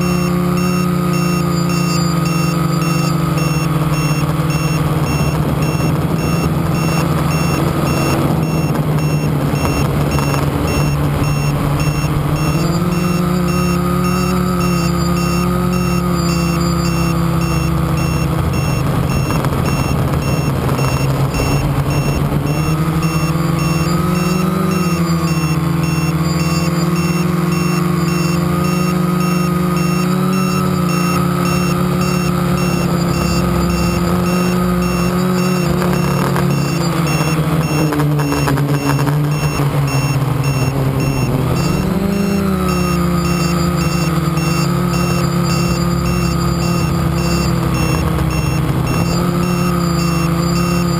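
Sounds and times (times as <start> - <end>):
drone motors whining: 0.0 - 50.9.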